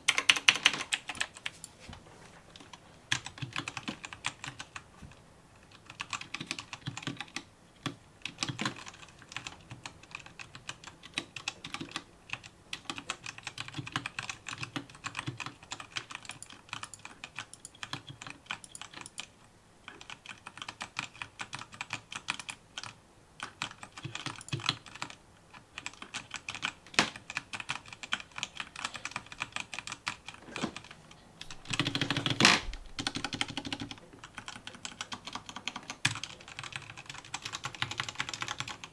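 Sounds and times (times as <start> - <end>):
mechanical keyboard typing: 0.0 - 1.7, 2.6 - 4.8, 5.6 - 19.3, 19.9 - 38.9.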